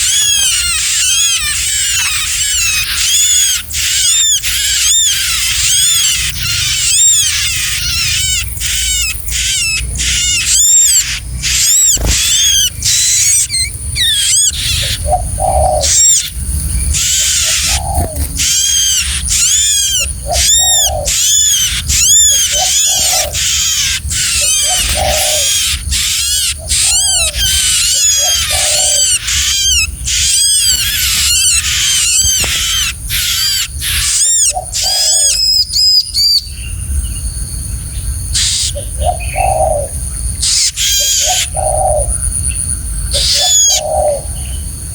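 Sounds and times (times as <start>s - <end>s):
small bird chirping rapidly: 0.0s - 36.8s, 38.4s - 44.6s.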